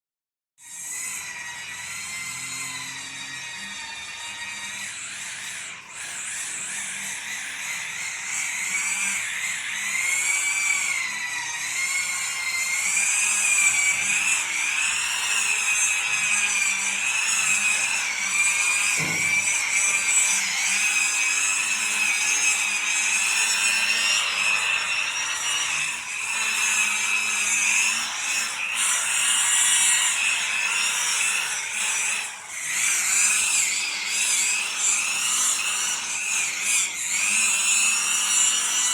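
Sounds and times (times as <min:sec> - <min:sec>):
power tool motor whining: 0:00.6 - 0:38.9.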